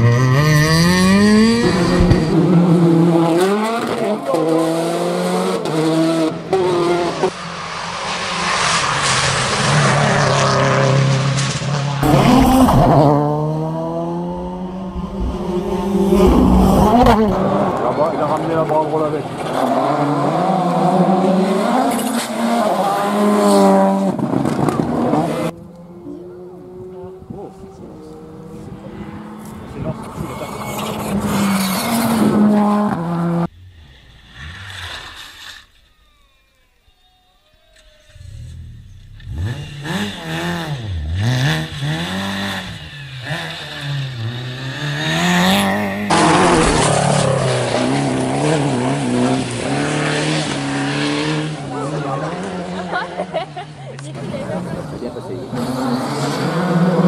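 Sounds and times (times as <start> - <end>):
rally car engine revving: 0.0 - 36.6, 38.0 - 57.0
rally car running at high revs: 0.0 - 57.0.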